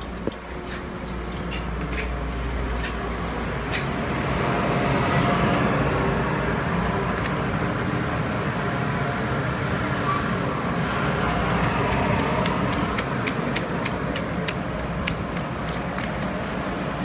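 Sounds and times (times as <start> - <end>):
station ambience: 0.0 - 17.0.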